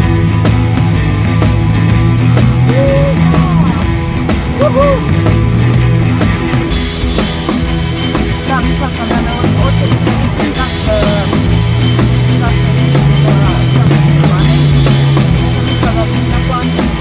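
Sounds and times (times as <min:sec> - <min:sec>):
rock music with drums: 0:00.0 - 0:17.0.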